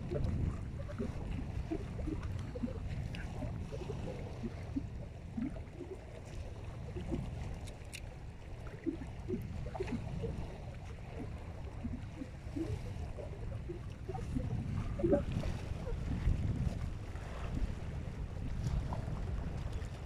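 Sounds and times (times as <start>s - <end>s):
low wind rumble on microphone: 0.0s - 20.0s
small waves lapping: 0.0s - 20.0s.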